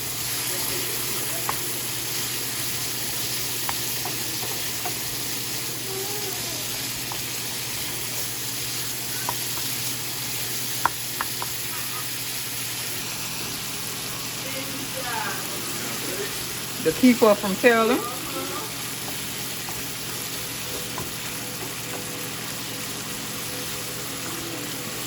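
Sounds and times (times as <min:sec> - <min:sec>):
chicken sizzling in a pan: 0:00.0 - 0:25.0.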